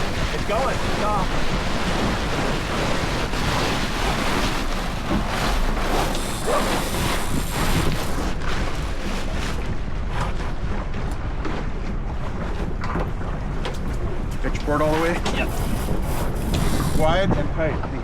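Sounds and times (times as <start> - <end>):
water rushing past hull: 0.0 - 18.0
wind buffeting microphone: 0.0 - 18.0.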